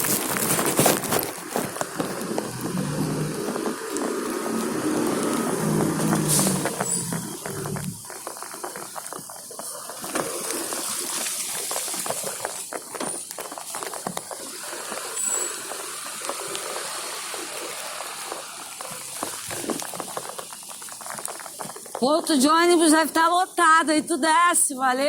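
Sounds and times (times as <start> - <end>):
water hissing and splashing: 0.0 - 25.0.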